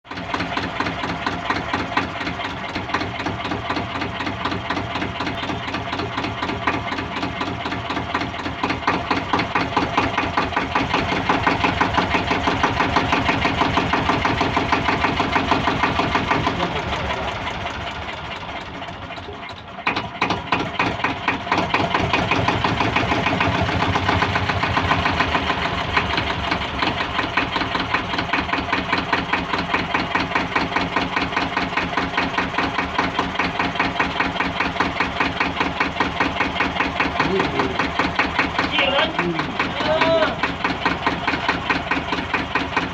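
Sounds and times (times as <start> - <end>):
diesel engine knocking: 0.0 - 42.9.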